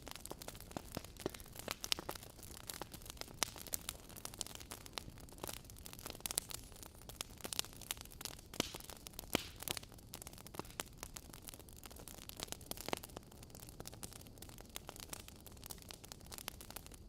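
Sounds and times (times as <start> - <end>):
logs crackling in fireplace: 0.0 - 17.0.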